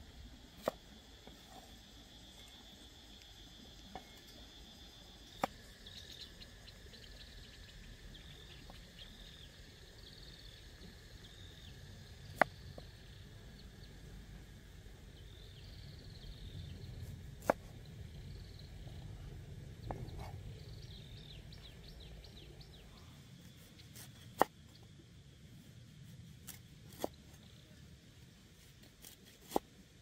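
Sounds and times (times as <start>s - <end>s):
faint high wildlife chirping: 0.0s - 30.0s.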